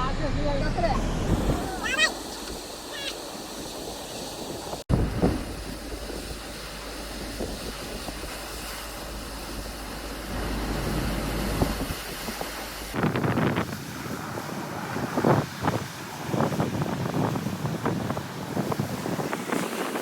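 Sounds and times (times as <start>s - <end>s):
surf washing: 0.0s - 20.0s
wind buffeting microphone: 0.1s - 20.0s.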